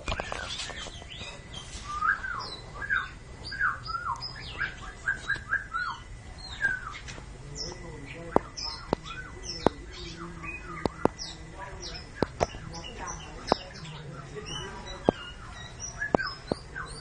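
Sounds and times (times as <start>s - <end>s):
magpie-robin singing whistled notes: 0.1s - 17.0s.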